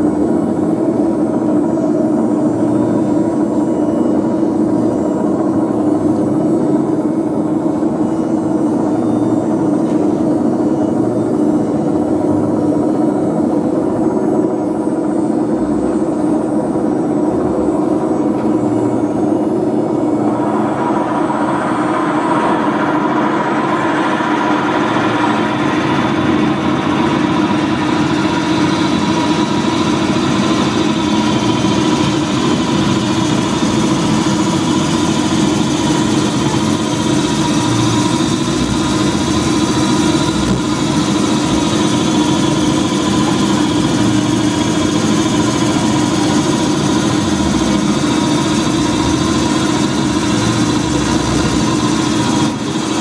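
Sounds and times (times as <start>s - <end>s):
electronic noise music drone: 0.0s - 53.0s.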